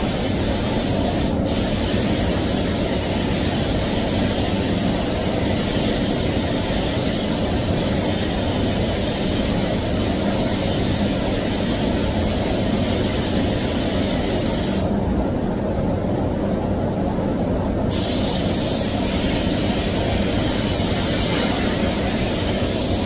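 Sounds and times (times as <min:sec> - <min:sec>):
paint spray gun hissing: 0:00.0 - 0:14.9, 0:17.9 - 0:23.0
ventilation rumble: 0:00.0 - 0:23.0.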